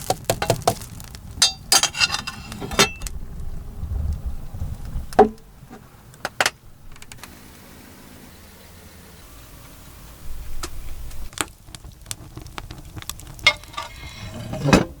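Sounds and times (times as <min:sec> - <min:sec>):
firewood crackling and popping: 0:00.0 - 0:07.4, 0:09.3 - 0:15.0.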